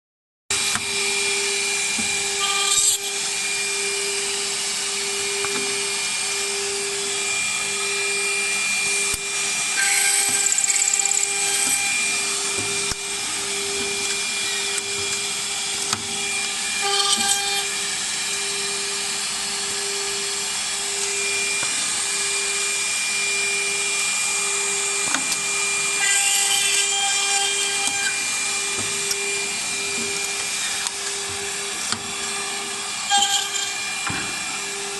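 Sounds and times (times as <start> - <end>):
drill spindles whining: 0.5 - 34.9
machine hum with pulsing tone: 0.5 - 34.9.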